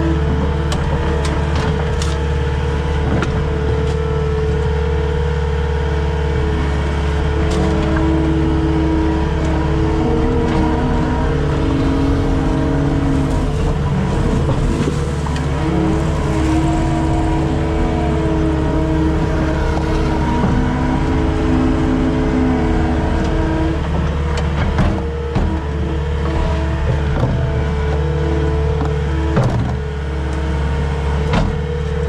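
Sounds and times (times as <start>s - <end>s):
steady whine: 0.0s - 29.7s
skid steer engine running: 0.0s - 32.0s.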